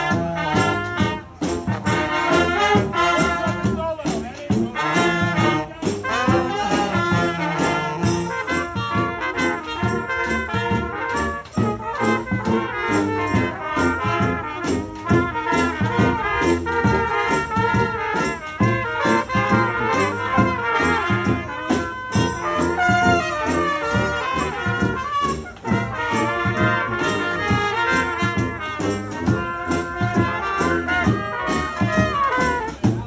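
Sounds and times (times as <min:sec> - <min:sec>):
percussion keeping a beat: 0:00.0 - 0:33.0
trumpets and trombones: 0:00.0 - 0:33.0.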